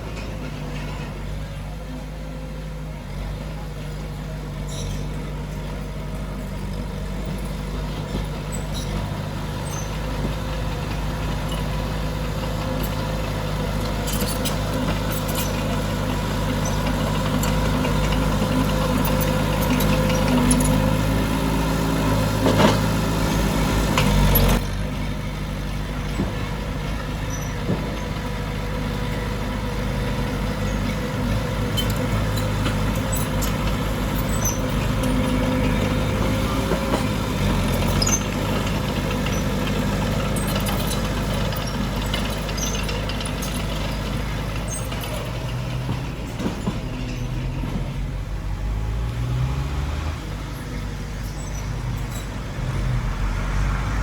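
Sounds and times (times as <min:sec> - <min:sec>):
diesel earthmoving machinery: 0:00.0 - 0:54.0.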